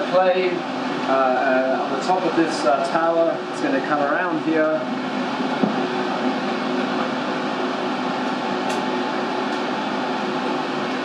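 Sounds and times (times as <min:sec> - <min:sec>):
whir of fans and ventilation: 0:00.0 - 0:11.0.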